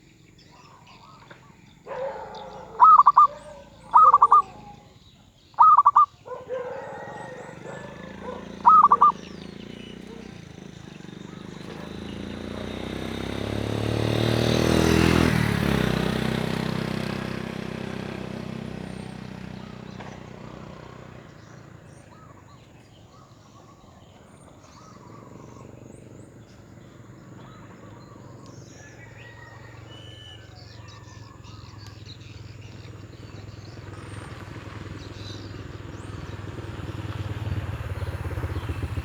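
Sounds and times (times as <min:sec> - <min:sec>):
faint bird calls: 0:00.0 - 0:13.6, 0:18.8 - 0:39.0
motor vehicle driving past: 0:01.3 - 0:39.0.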